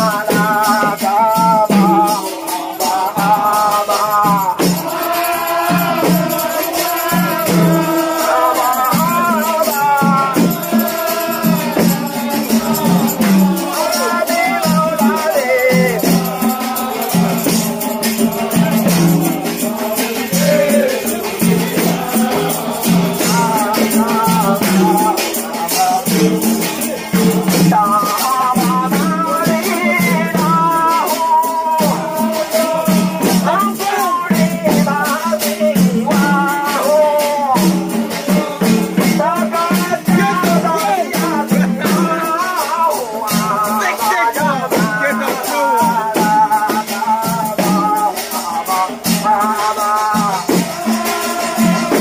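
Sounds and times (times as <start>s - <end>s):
frame drums beating: 0.0s - 52.0s
men chanting: 0.0s - 52.0s.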